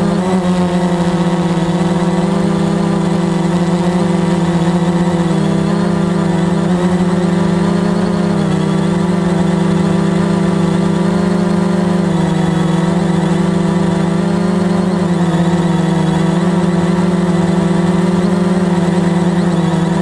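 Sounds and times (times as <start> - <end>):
drone buzzing hum: 0.0 - 20.0.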